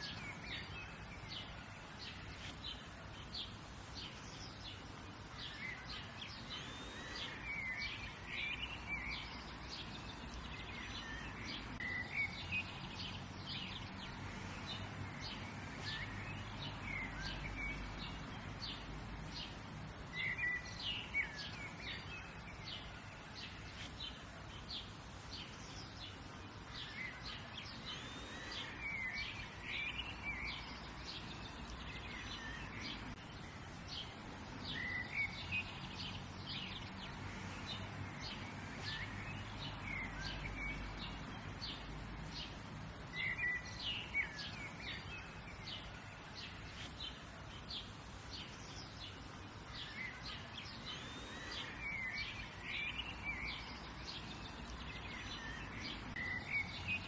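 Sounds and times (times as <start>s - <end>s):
birds chirping and singing: 0.0s - 57.0s.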